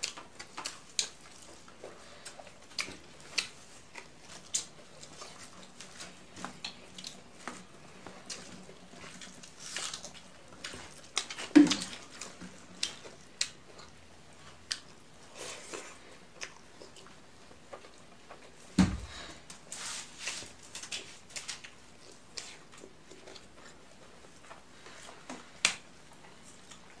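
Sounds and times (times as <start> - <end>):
chewing and mouth smacks: 0.0 - 18.6, 20.9 - 27.0.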